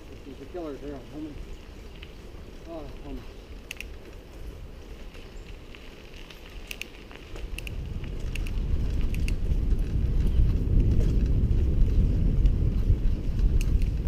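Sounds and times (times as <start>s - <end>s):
bicycle tyres clicking and rattling: 0.0s - 14.0s
rumble of tyre and wind noise: 0.0s - 14.0s.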